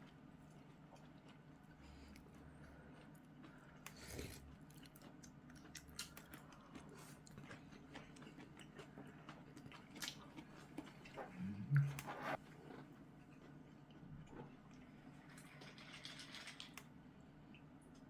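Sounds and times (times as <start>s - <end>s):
person chewing food: 0.0s - 16.9s.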